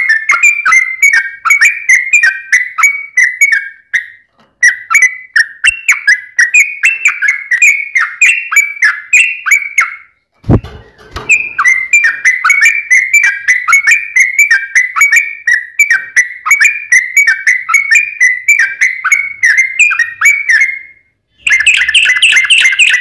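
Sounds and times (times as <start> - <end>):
bulbul singing whistled notes: 0.0 - 23.0.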